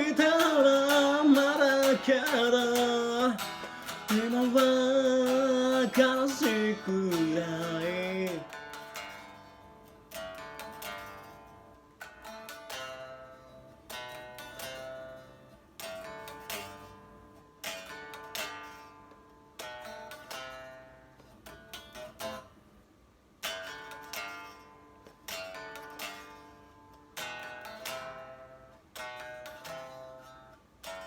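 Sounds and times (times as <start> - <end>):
guitar chords ringing: 0.0 - 22.6, 23.4 - 31.0.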